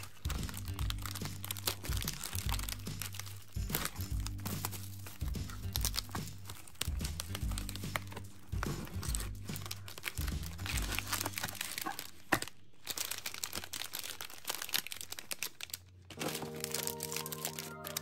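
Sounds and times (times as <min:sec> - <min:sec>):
wrappers crinkling and tearing: 0:00.0 - 0:18.0.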